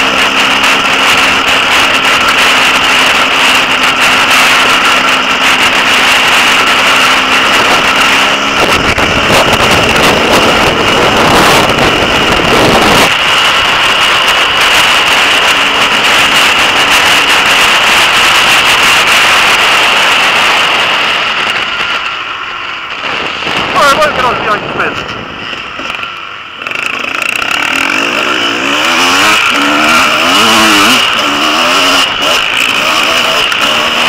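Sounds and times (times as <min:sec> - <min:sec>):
motorcycle engine running: 0:00.0 - 0:34.0
wind noise on microphone: 0:00.0 - 0:34.0.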